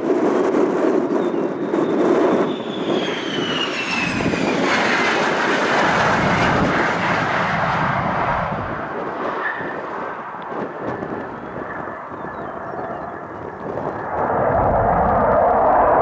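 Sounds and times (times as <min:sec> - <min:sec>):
fighter jet passing by: 0:00.0 - 0:16.0.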